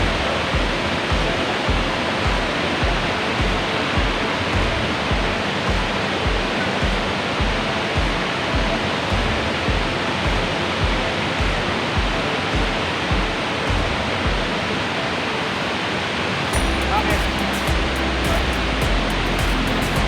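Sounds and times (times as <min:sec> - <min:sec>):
background music with bass beat: 0:00.0 - 0:14.6, 0:16.5 - 0:20.0.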